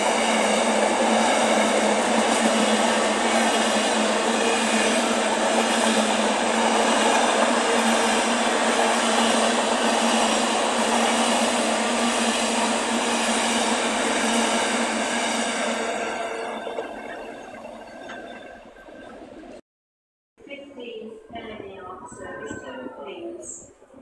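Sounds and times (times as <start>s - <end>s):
train wheels rolling on rails: 0.0s - 19.6s.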